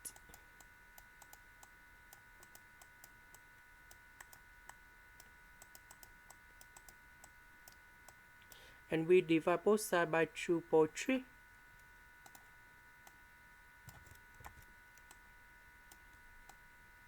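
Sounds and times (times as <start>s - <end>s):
faint electrical whine: 0.0s - 17.0s.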